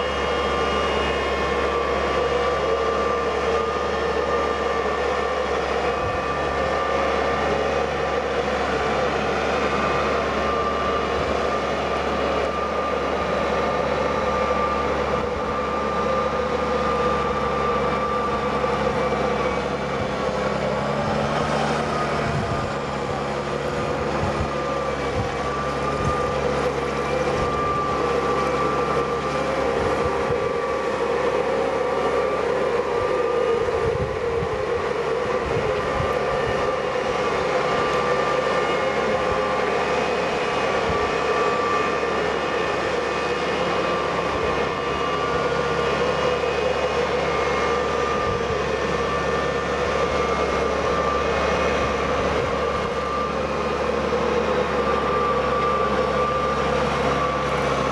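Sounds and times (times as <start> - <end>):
drone propellers whining: 0.0 - 57.9.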